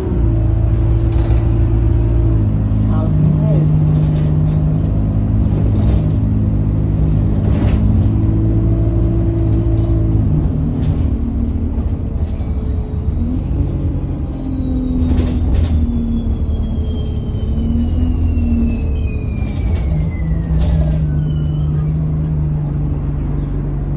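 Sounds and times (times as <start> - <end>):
turbocharger whistle: 0.0 - 10.1, 12.4 - 23.9
bus diesel engine: 0.0 - 23.9.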